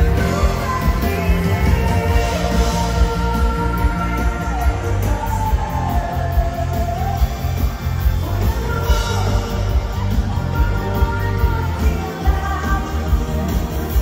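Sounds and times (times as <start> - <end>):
drums: 0.0 - 14.0
electric guitar: 0.0 - 14.0
woman singing into microphone: 0.0 - 14.0.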